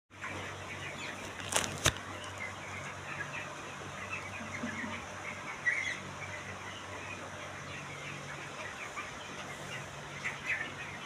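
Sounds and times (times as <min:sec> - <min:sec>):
chickens calling: 0:00.1 - 0:11.0.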